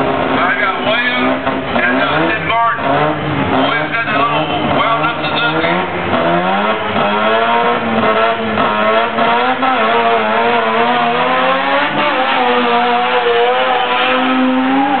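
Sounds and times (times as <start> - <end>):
engine revving high: 0.0 - 15.0.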